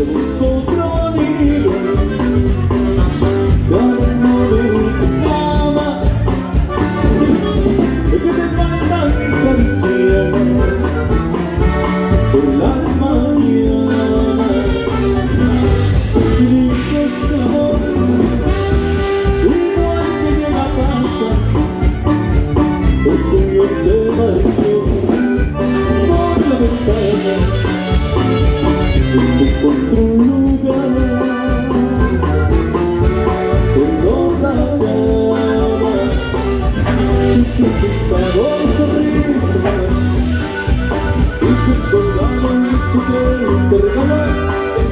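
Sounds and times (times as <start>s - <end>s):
band playing instrumental music: 0.0s - 44.9s.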